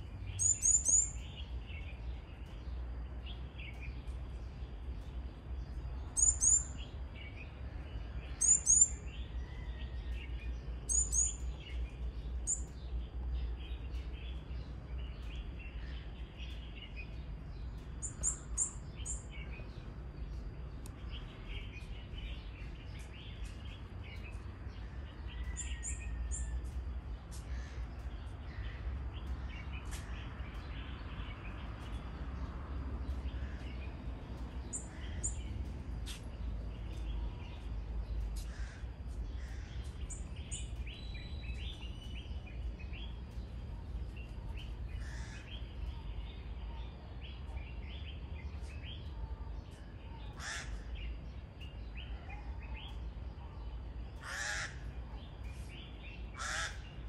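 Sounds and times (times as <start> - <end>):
birds chirping and chattering: 0.0 - 57.0
low steady rumble: 0.0 - 57.0.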